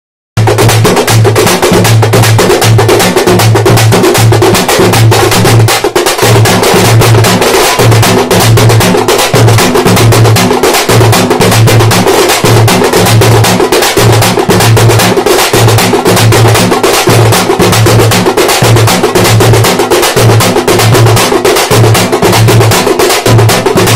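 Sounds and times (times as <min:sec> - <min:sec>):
frame drums beaten fast: 0:00.4 - 0:23.9.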